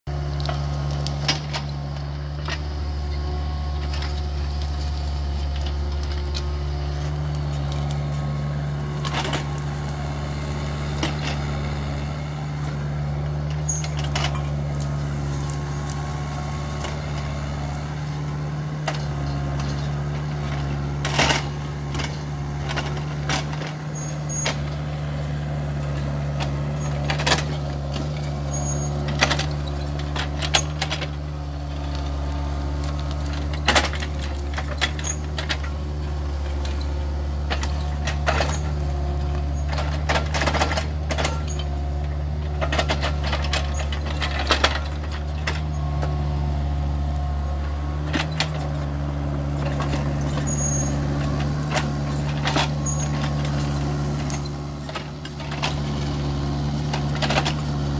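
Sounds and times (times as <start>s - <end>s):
excavator diesel engine running: 0.1s - 57.9s
branches clacking and snapping: 0.2s - 57.9s.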